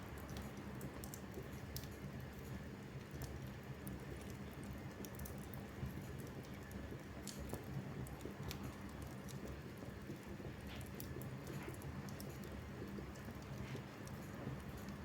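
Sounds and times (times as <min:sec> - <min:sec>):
low rumble of flames: 0:00.0 - 0:15.0
fire pops and snaps: 0:00.1 - 0:15.0.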